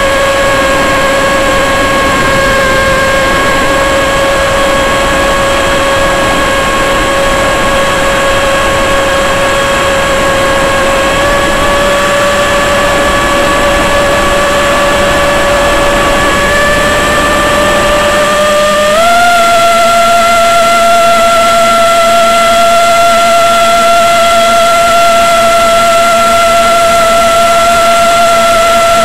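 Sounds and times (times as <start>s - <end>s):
wind rush: 0.0s - 24.5s
electric motor and propeller whine: 0.0s - 29.0s.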